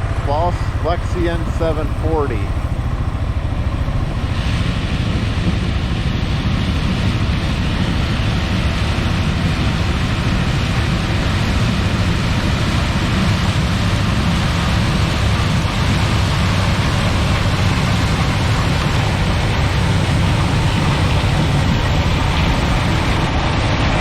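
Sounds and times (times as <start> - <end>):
combine harvester rumbling: 0.0 - 24.0.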